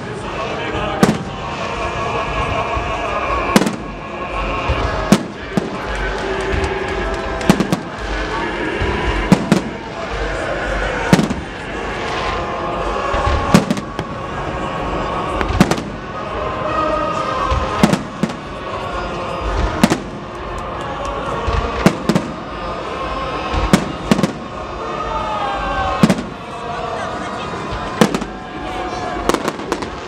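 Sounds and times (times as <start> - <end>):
fireworks bursting with sharp bangs: 0.0 - 30.0.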